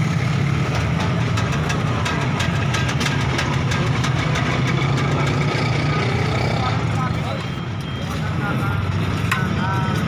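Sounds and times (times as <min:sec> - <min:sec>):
low engine rumble: 0:00.0 - 0:10.0.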